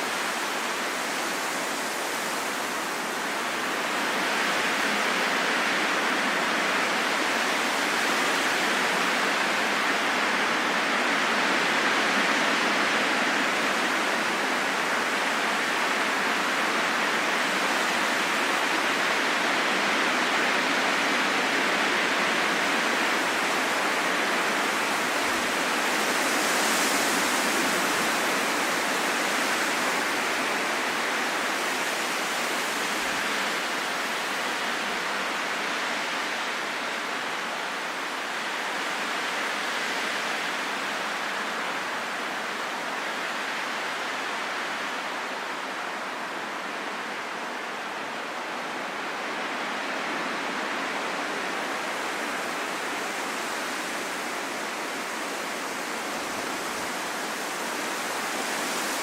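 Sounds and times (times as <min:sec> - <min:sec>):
rushing wind: 0:00.0 - 0:59.0.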